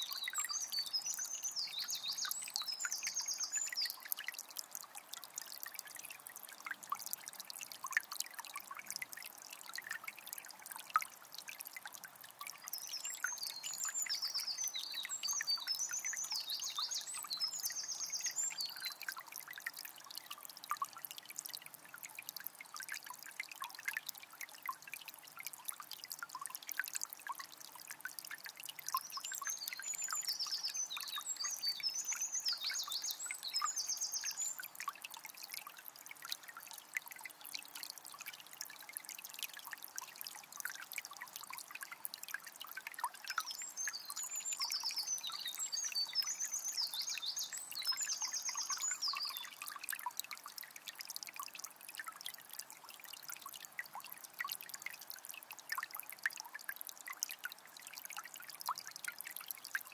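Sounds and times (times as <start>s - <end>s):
river trickling and flowing: 0.0s - 59.9s.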